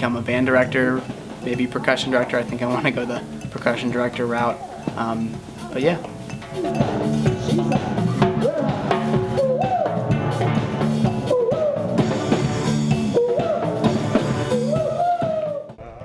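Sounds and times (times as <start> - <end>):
steel drum band playing: 0.0 - 15.0
drum kit: 0.0 - 16.0.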